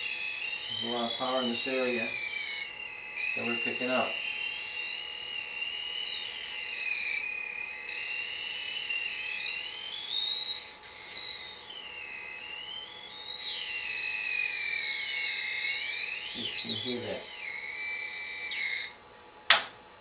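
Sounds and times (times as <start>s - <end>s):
whistling tones: 0.0s - 19.0s
high-pitched electronic whine: 0.0s - 19.6s.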